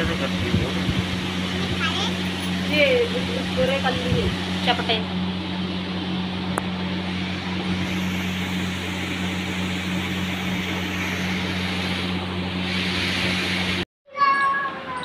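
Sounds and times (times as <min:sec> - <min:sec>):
electric fan humming: 0:00.0 - 0:13.8.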